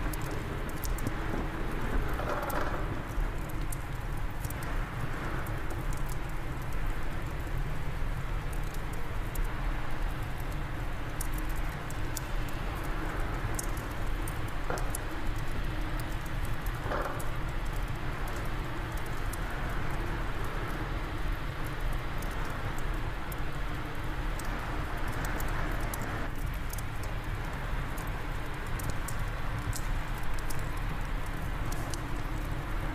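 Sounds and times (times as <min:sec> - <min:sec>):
wind rumble: 0:00.0 - 0:26.4
fire crackling and popping: 0:00.0 - 0:32.9.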